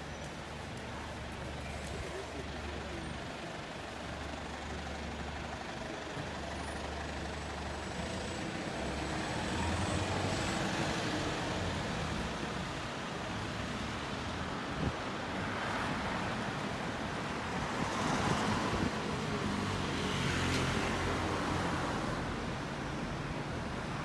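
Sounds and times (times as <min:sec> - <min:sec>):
bus engine rumble with road noise: 0:00.0 - 0:24.0.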